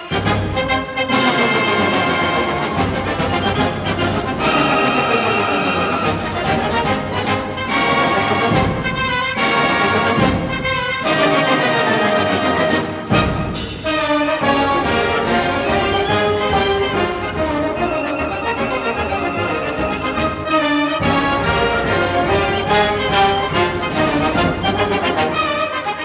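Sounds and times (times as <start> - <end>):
orchestral music led by brass: 0.0 - 26.0.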